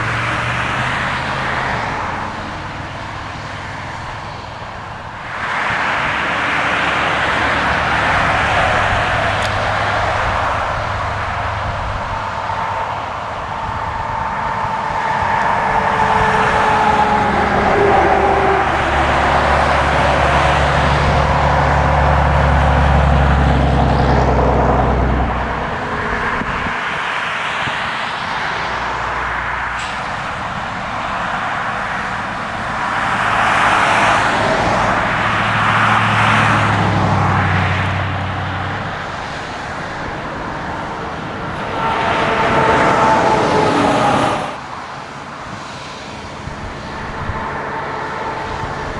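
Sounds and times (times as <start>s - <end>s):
diesel engine working: 0.0s - 48.9s.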